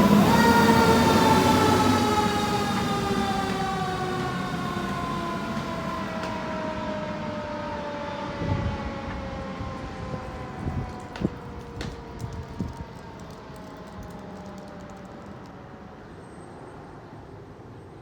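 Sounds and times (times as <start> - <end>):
fire truck siren winding down: 0.0 - 15.9.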